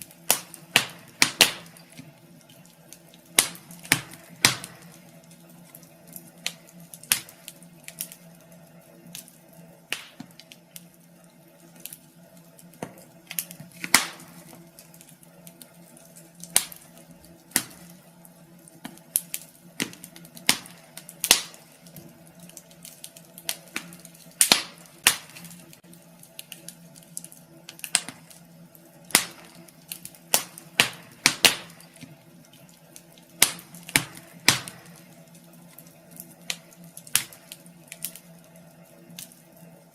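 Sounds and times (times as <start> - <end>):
low steady hum: 0.0 - 39.9
wood fire crackling and popping: 0.0 - 39.9.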